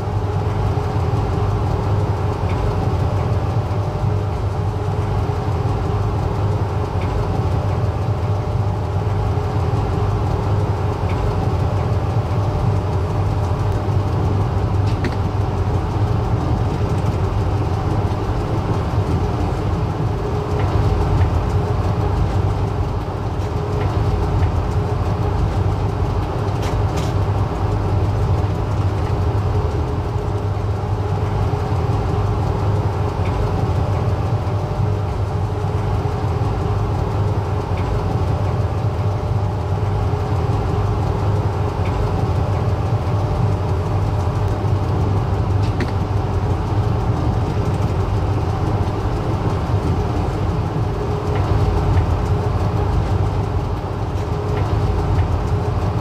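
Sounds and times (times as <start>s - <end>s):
passenger train running: 0.0s - 56.0s
faint clicks and rattles: 0.3s - 56.0s.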